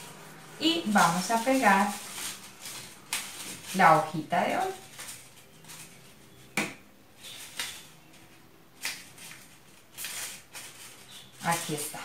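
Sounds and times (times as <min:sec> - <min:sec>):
crisp paper rustles: 0:00.0 - 0:12.0.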